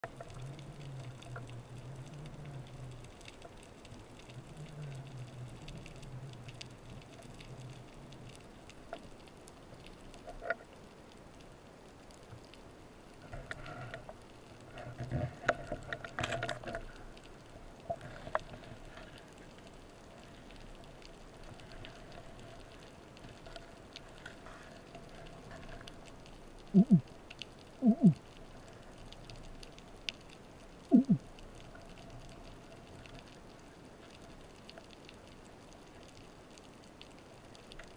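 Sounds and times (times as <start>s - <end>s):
faint underwater crackle: 0.0s - 37.9s.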